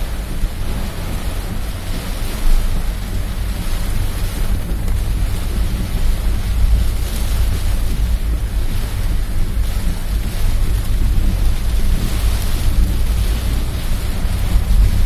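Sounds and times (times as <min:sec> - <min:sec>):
constant low rumble: 0:00.0 - 0:15.0
heavy rain on car roof: 0:00.0 - 0:15.0.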